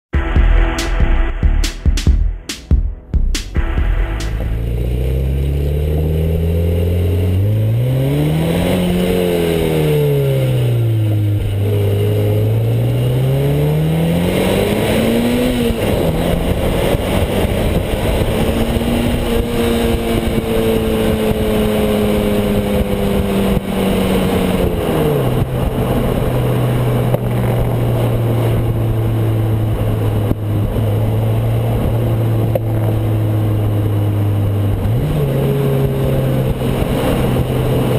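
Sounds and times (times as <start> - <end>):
car exhaust revving: 0.1 - 37.9
road and wind noise: 3.5 - 37.9.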